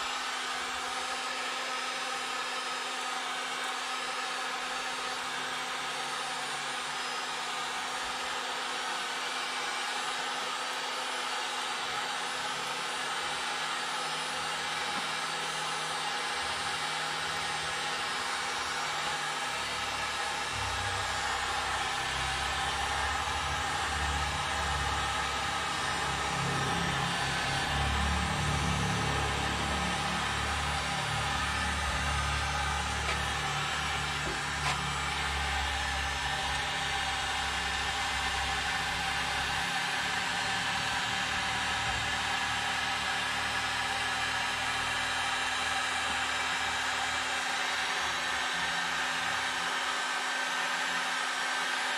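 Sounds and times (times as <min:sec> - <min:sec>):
heat gun blowing: 0:00.0 - 0:51.9.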